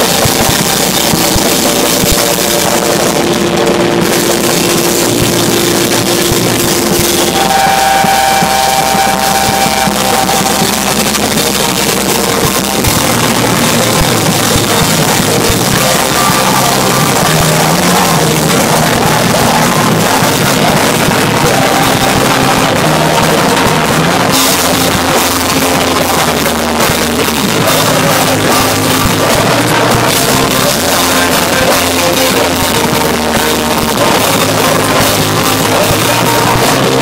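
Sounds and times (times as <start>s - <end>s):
punk band playing live: 0.0s - 37.0s.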